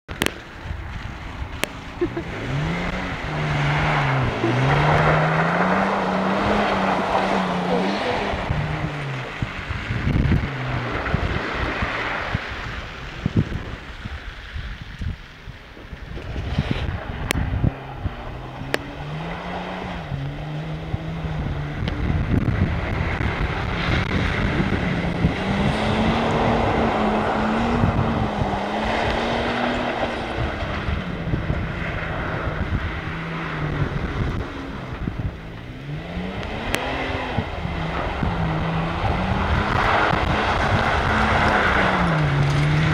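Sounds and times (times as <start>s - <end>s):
wheels spinning in mud: 0.1s - 42.9s
engine revving: 1.6s - 13.9s, 16.2s - 42.9s.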